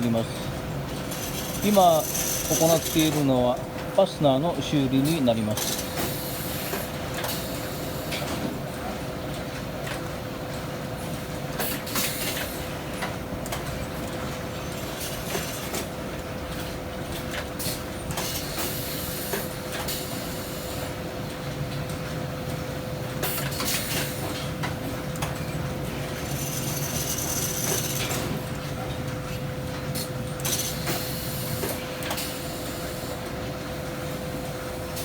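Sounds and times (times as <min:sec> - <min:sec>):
machinery humming: 0:00.0 - 0:12.0, 0:12.7 - 0:35.0.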